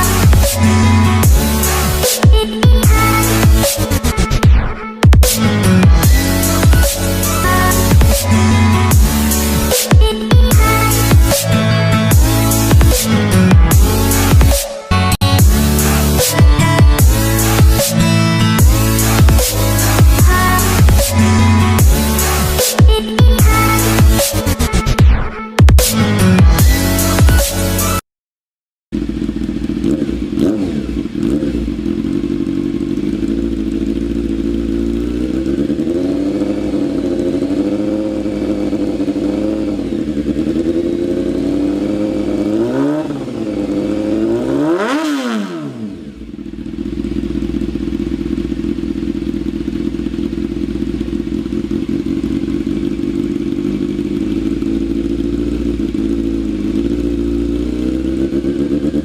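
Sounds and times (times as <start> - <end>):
motorcycle engine idling and revving: 0.0 - 28.0, 28.9 - 59.0.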